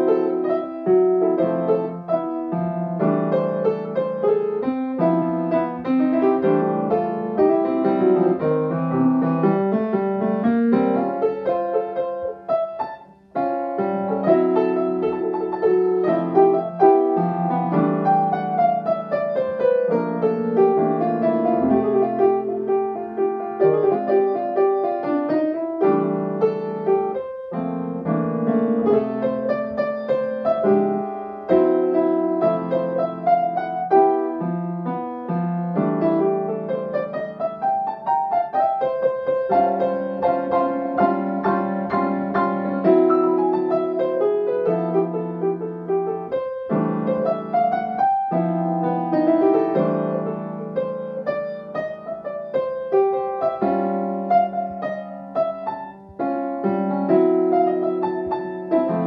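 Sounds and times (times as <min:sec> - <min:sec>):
solo grand piano: 0:00.0 - 0:59.0.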